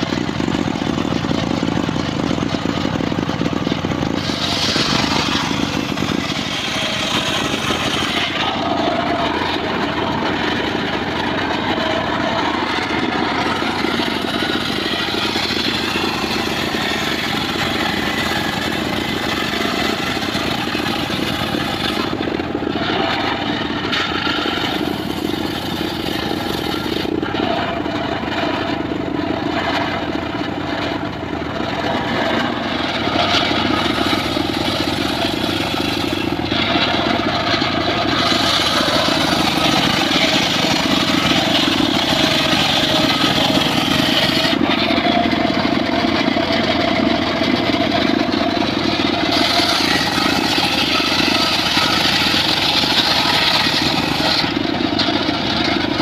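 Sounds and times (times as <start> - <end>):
circular saw ripping logs: 0.0 - 56.0.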